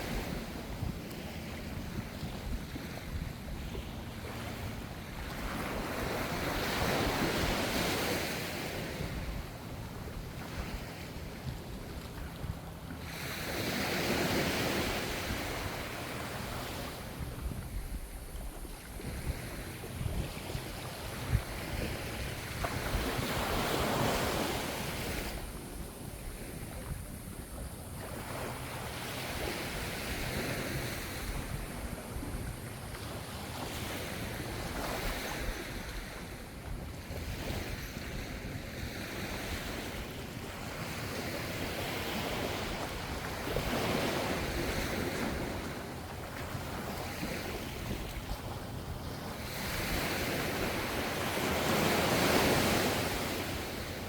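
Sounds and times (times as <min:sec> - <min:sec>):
ocean waves washing onto shore: 0:00.0 - 0:54.0
wind rumble on microphone: 0:00.0 - 0:54.0.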